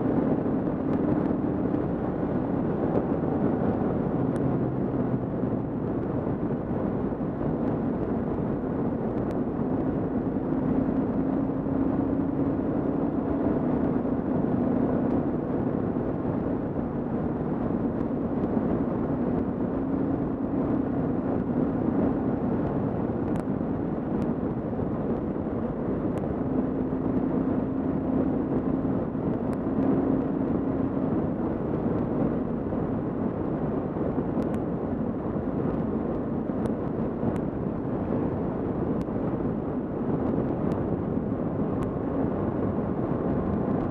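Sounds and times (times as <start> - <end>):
wind rush: 0.0 - 43.9.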